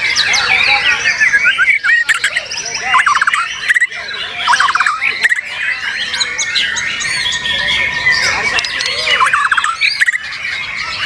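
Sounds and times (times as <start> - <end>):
birds singing: 0.0 - 11.0
fast rattling bird trills: 0.0 - 11.0.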